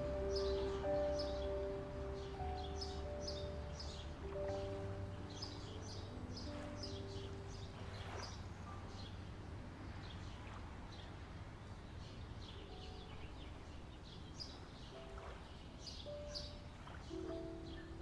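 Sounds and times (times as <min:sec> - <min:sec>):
steady low rumble: 0:00.0 - 0:14.7
small birds chirping: 0:00.0 - 0:18.0
soft music notes: 0:00.0 - 0:18.0.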